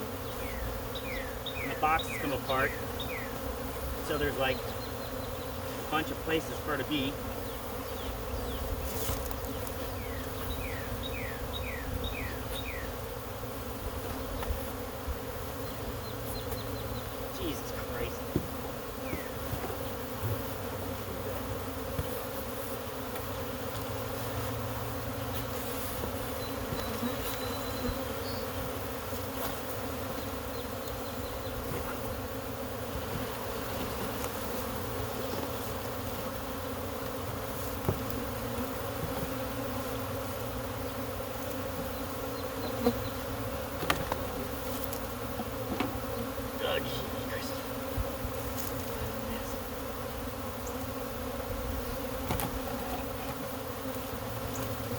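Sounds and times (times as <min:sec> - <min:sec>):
bee swarm buzzing: 0:00.0 - 0:54.9.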